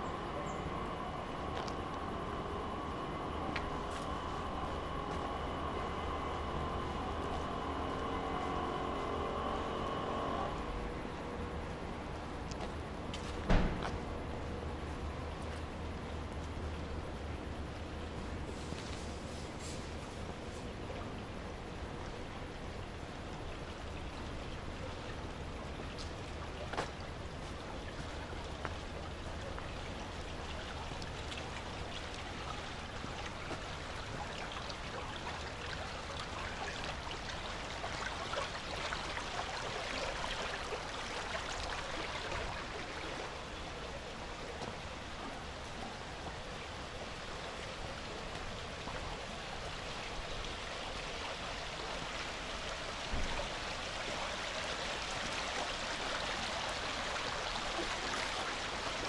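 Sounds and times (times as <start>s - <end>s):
low hum: 0.0s - 57.2s
water trickling in concrete channel: 0.0s - 59.0s.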